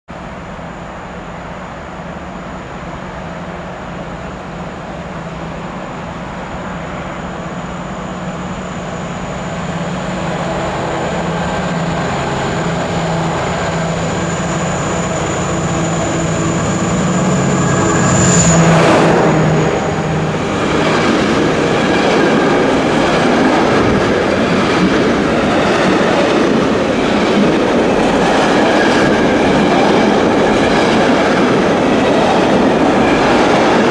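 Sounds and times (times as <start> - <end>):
diesel locomotive engine: 0.1 - 33.9
high whine: 0.2 - 33.9
train wheels rumbling: 0.2 - 33.9.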